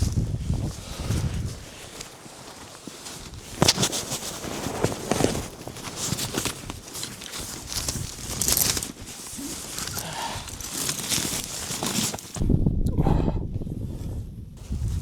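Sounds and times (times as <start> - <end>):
footsteps crunching in snow: 0.0 - 12.4.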